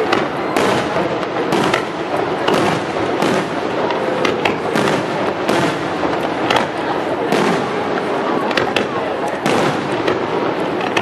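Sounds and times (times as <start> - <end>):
firework shells bursting: 0.0 - 11.0
fireworks crackle: 0.0 - 11.0.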